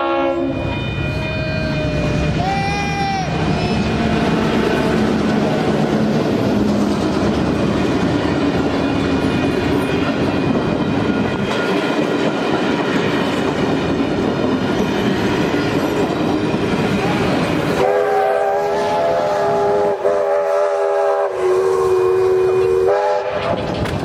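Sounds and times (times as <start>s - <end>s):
diesel locomotive drone: 0.0s - 24.0s
train wheels on rails: 0.0s - 24.0s.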